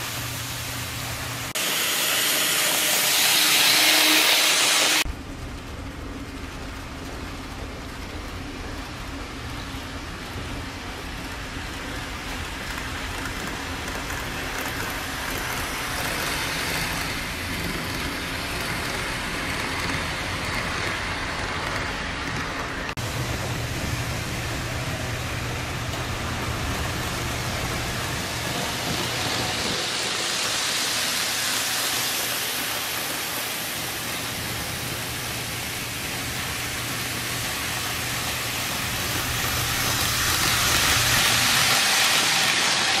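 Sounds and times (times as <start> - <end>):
model trains running on track: 0.0 - 43.0.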